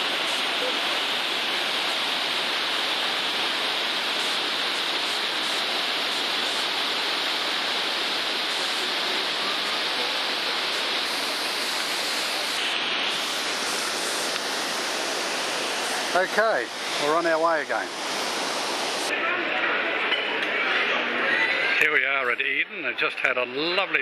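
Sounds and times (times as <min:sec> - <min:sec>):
waterfall rushing over rocks: 0:00.0 - 0:20.1.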